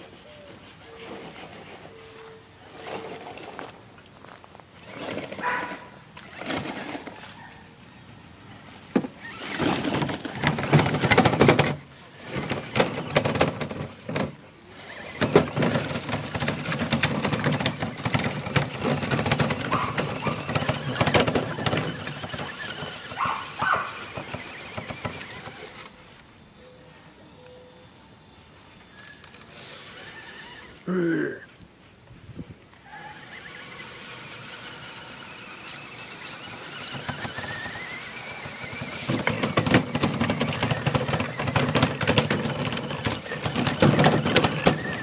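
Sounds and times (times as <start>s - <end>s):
electric rc truck motor: 0.5s - 3.8s, 4.7s - 7.4s, 8.5s - 26.2s, 29.2s - 30.8s, 32.8s - 45.0s.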